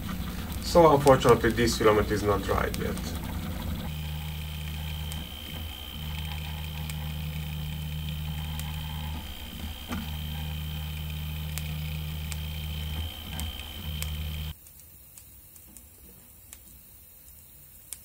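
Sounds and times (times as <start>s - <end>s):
steady high whine: 0.0s - 14.5s
stepper motors humming: 0.0s - 14.5s.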